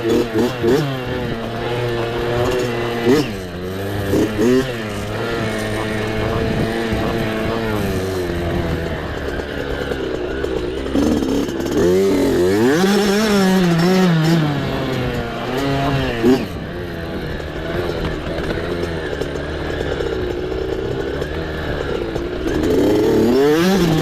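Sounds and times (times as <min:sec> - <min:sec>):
mini bike engine revving: 0:00.0 - 0:24.0.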